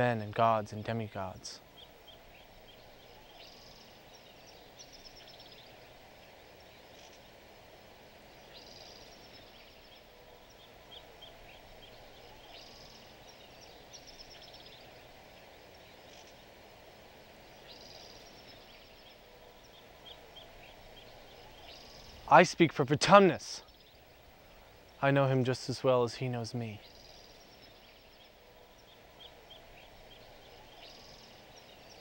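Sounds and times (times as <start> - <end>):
small bird chirping: 0.0 - 22.6, 23.2 - 32.0
low steady hiss: 0.0 - 32.0.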